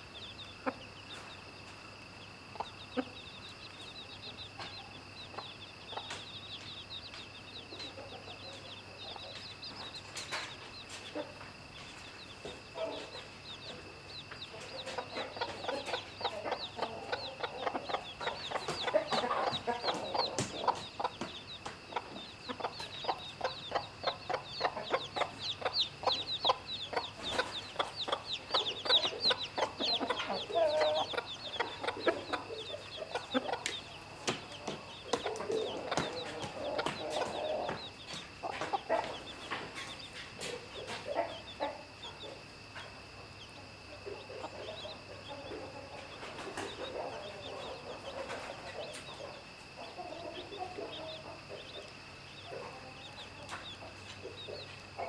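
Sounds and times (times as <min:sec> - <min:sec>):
chicks peeping: 0:00.0 - 0:55.0
hen clucking: 0:00.0 - 0:55.0.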